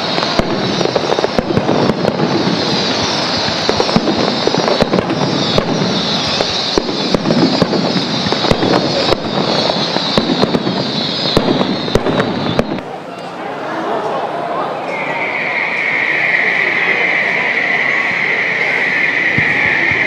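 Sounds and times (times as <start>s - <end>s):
fireworks bangs and crackling: 0.0s - 12.9s, 15.0s - 20.0s
falling high whine: 0.0s - 20.0s.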